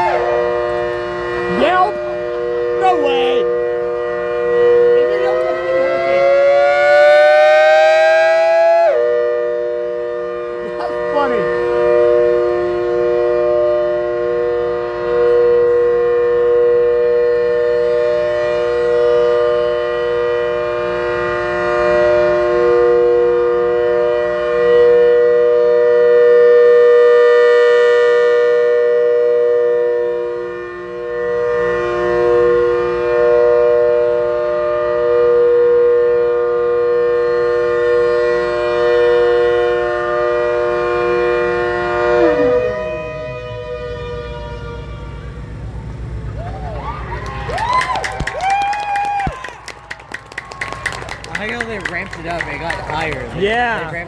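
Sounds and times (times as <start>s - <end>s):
siren wailing: 0.0s - 49.5s.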